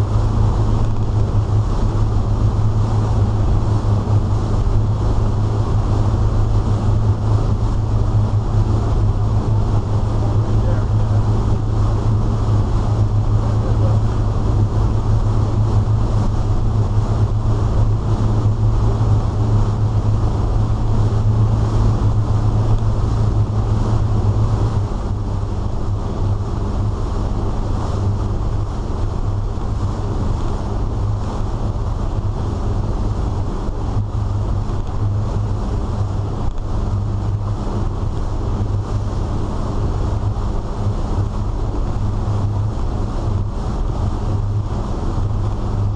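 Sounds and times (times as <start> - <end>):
boat engines droning: 0.0 - 45.9
wind and water rushing: 0.0 - 45.9.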